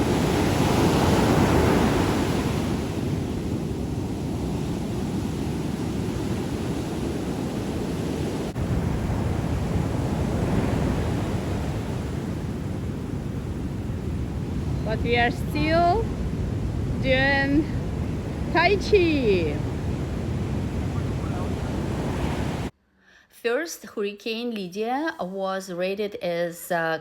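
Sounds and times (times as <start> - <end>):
big waves breaking: 0.0 - 22.7
wind buffeting microphone: 0.0 - 22.7.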